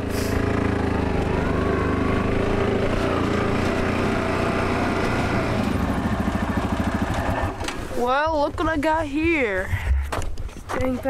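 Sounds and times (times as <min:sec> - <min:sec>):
atv engine running: 0:00.0 - 0:10.1.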